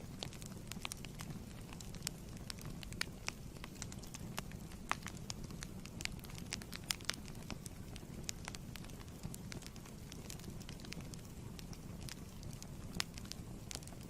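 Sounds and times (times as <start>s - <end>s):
fire popping and snapping: 0.0s - 14.0s
low rumble of flames: 0.0s - 14.0s.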